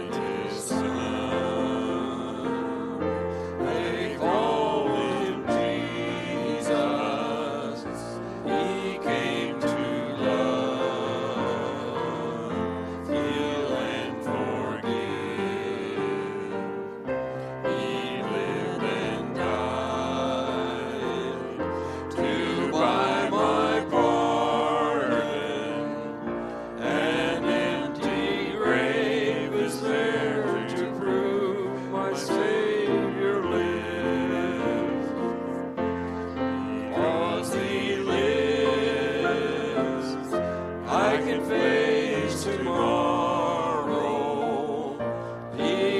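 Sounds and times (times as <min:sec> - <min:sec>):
congregation singing a hymn: 0:00.0 - 0:45.9.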